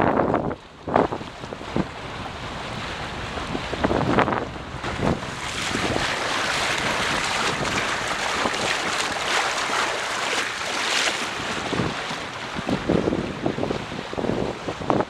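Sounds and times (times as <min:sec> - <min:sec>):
water rushing along a boat hull: 0:00.0 - 0:15.0
wind buffeting microphone: 0:00.0 - 0:15.0.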